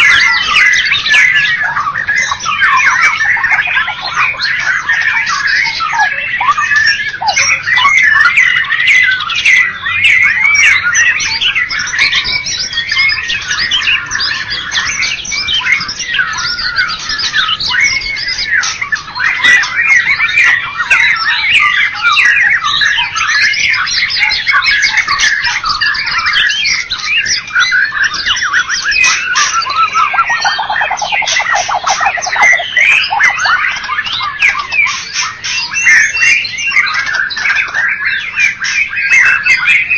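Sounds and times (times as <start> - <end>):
bird singing varied whistles: 0.0 - 39.9
fast buzzing bird trill: 0.0 - 39.9.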